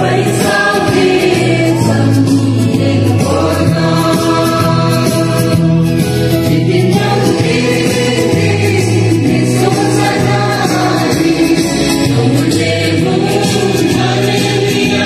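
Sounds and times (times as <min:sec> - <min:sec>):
choir singing over held chords: 0:00.0 - 0:15.0.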